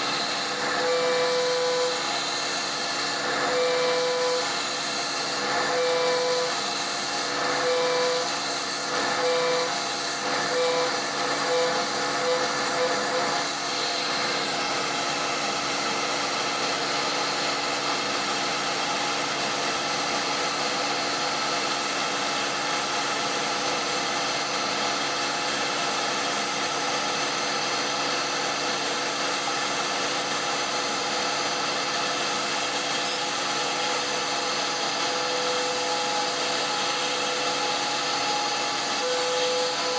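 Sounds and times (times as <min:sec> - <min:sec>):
router spindle milling: 0:00.0 - 0:39.9.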